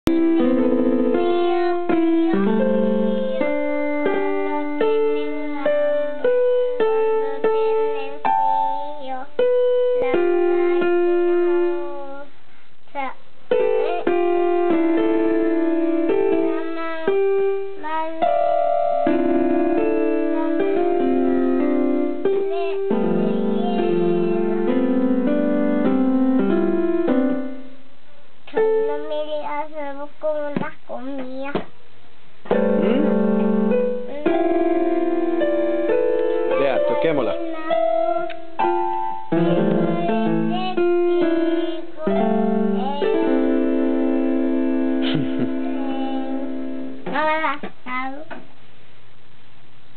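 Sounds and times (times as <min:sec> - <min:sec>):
electronic keyboard chords: 0:00.1 - 0:12.2, 0:13.5 - 0:27.9, 0:32.5 - 0:47.6.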